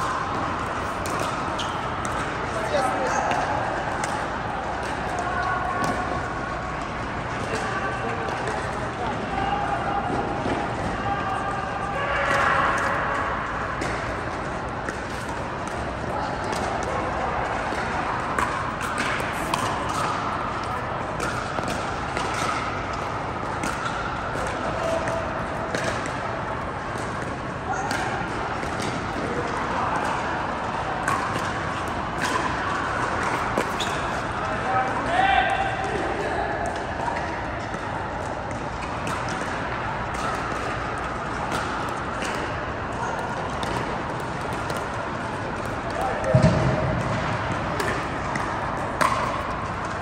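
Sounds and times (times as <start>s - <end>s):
ball struck by paddles: 0.0s - 6.2s, 12.2s - 26.3s, 27.0s - 30.4s, 31.0s - 50.0s
indoor hall hum: 0.0s - 50.0s.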